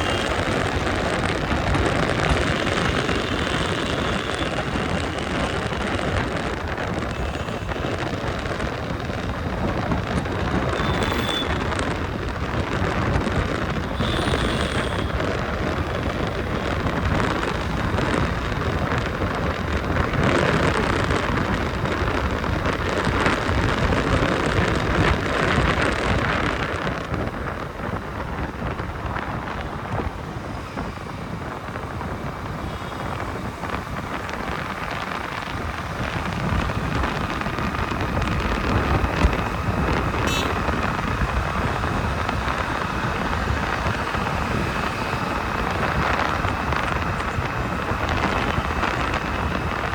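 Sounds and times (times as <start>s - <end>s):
road traffic noise: 0.0s - 49.9s
wind buffeting microphone: 0.0s - 49.9s.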